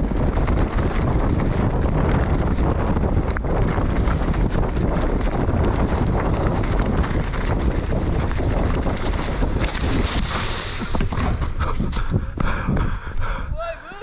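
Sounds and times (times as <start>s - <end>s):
bike clicks and rattles: 0.0s - 13.0s
tyres rumbling on trail: 0.0s - 14.0s
wind buffeting microphone: 0.0s - 14.0s.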